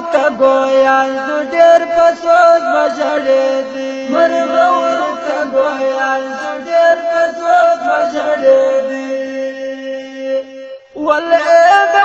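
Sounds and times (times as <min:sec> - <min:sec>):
person chanting in long held notes: 0:00.0 - 0:10.5.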